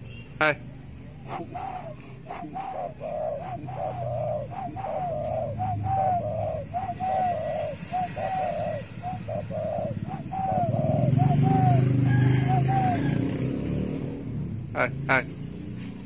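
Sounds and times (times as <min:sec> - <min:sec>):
dove cooing: 0:00.7 - 0:16.0.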